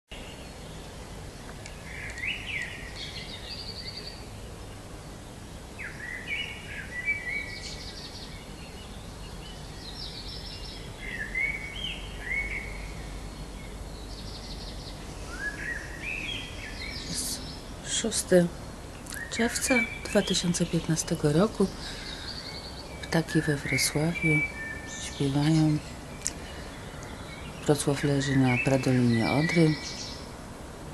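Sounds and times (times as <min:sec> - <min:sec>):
songbird singing trills: 0:00.1 - 0:30.4
low background rumble: 0:00.1 - 0:30.9.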